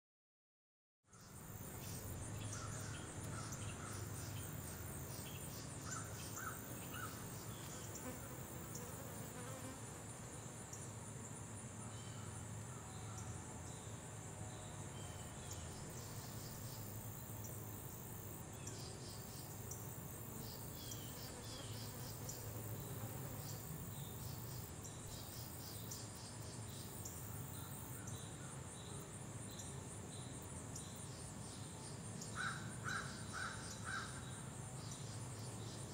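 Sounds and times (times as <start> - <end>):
insects trilling: 1.1 - 35.9.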